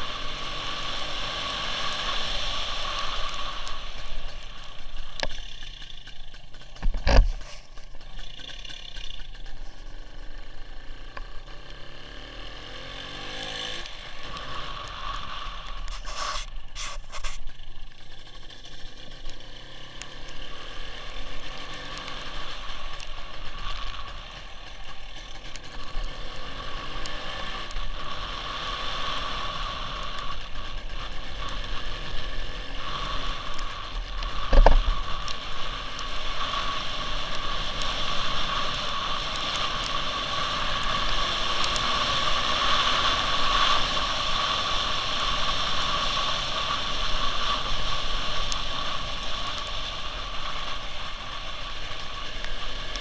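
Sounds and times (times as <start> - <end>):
motorcycle engine: 0.0 - 53.0
wet road noise: 0.0 - 53.0.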